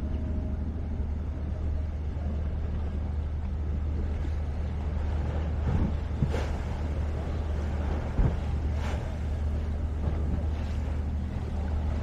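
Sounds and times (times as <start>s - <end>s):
low rumble of waterfront ambience: 0.0s - 12.0s.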